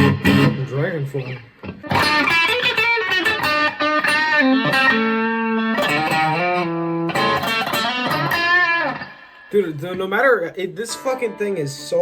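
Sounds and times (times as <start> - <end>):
electric guitar lead line: 0.0 - 10.0.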